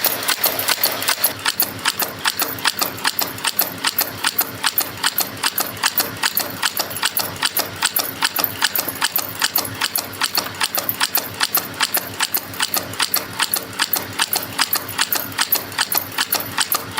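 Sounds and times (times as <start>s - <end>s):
machine metallic clicking: 0.0s - 16.9s.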